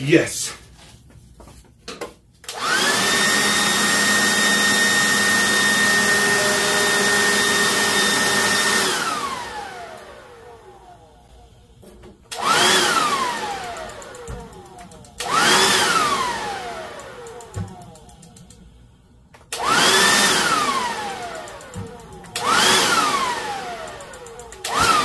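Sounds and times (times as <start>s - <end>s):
turbine whine spinning up: 2.5s - 18.8s, 19.5s - 25.0s.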